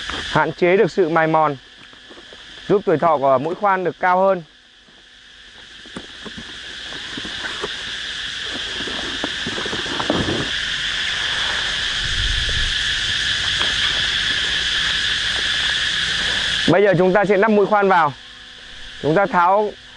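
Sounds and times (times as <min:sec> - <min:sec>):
insect drone: 0:00.0 - 0:19.9.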